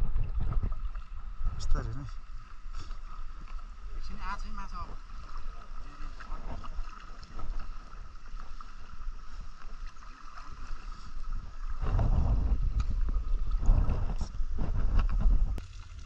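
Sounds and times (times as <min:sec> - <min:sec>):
water sloshing around legs: 0:00.0 - 0:16.0
wind rumbling on microphone: 0:00.0 - 0:16.0.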